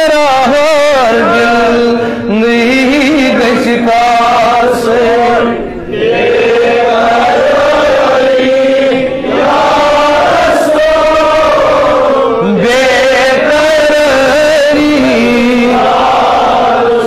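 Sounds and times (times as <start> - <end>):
man chanting a devotional hymn: 0.0 - 6.7, 9.8 - 17.0.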